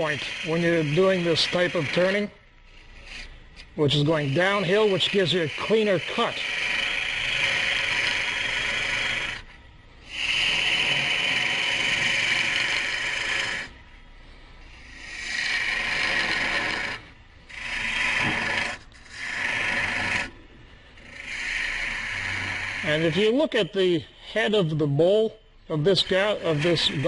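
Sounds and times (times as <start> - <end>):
gouge cutting wood on lathe: 0.0 - 27.0.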